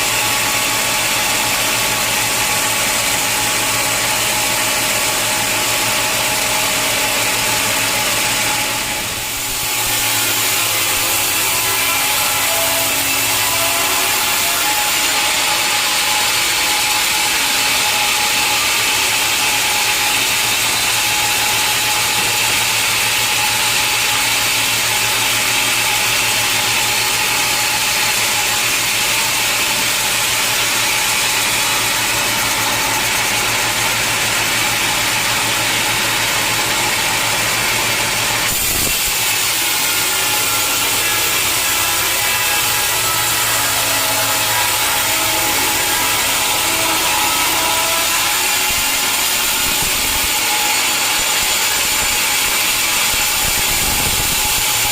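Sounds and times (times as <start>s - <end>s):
mill motor humming: 0.0s - 54.9s
saw blade rasping through log: 0.0s - 54.9s.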